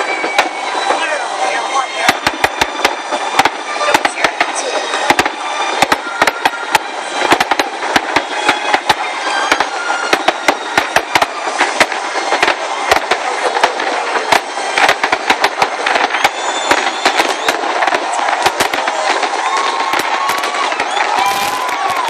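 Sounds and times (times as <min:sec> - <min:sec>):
continuous rushing background: 0:00.0 - 0:22.0
firework shells bursting: 0:00.0 - 0:22.0.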